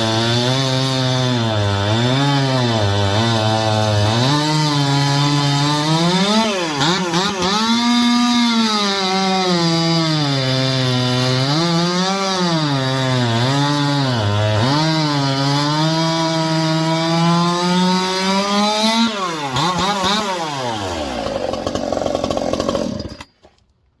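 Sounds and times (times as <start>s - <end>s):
chainsaw cutting wood: 0.0s - 23.6s.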